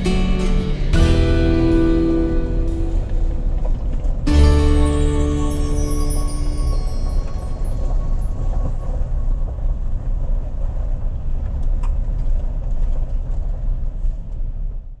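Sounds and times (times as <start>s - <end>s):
truck cab rumble on gravel: 0.0s - 14.5s.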